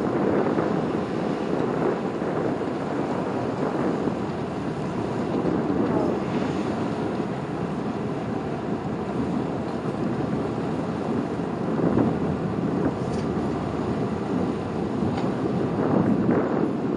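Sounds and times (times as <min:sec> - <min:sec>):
ferry engines rumbling: 0:00.0 - 0:16.9
wind buffeting microphone: 0:00.0 - 0:16.9.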